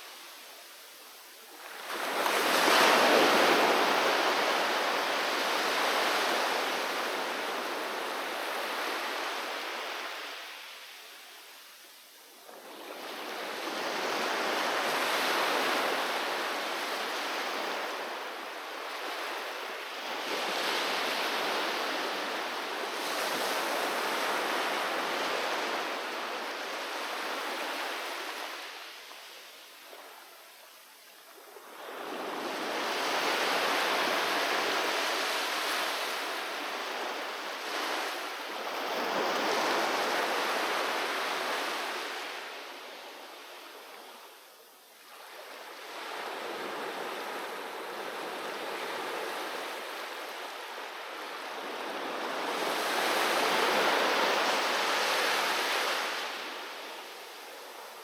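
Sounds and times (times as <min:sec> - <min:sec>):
ocean waves breaking on shore: 0:01.2 - 0:11.5, 0:12.3 - 0:30.3, 0:31.2 - 0:44.3, 0:45.1 - 0:58.0.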